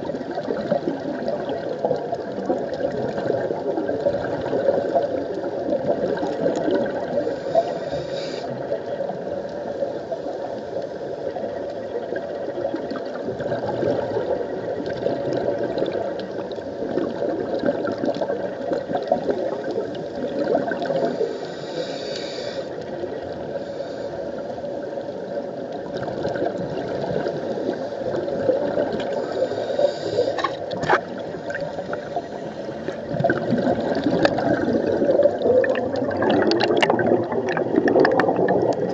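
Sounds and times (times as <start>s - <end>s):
divers' air bubbling: 0.0s - 9.3s, 11.9s - 21.3s, 25.8s - 38.9s
underwater rumble: 0.0s - 38.9s.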